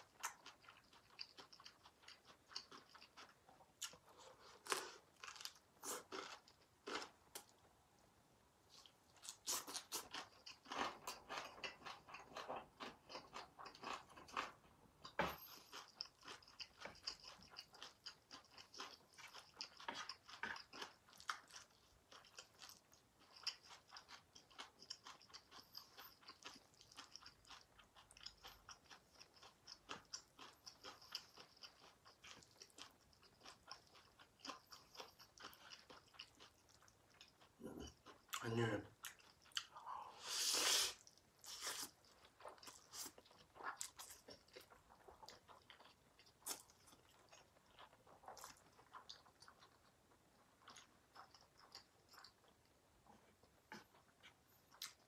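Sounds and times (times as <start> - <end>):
close chewing with wet smacks: 0.0 - 7.6, 8.7 - 39.8, 41.0 - 55.0.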